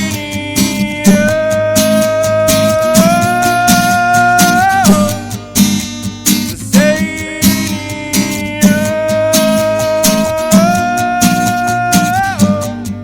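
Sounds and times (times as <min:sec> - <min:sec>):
guitar strummed to a steady beat: 0:00.0 - 0:13.0.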